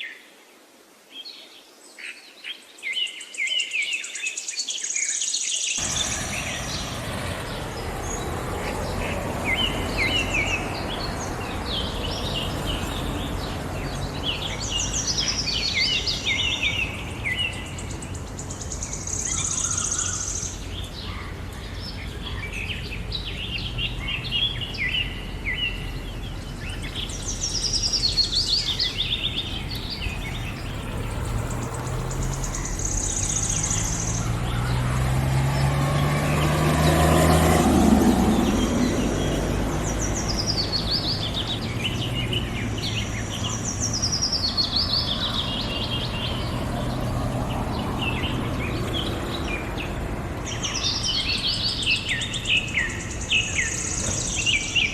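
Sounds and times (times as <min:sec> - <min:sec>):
birds chirping and calling: 0:03.1 - 0:54.9
vehicle passing: 0:05.8 - 0:54.8.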